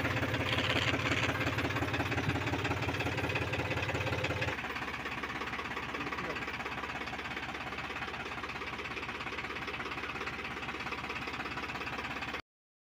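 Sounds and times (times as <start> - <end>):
tractor diesel engine running: 0.0 - 12.4.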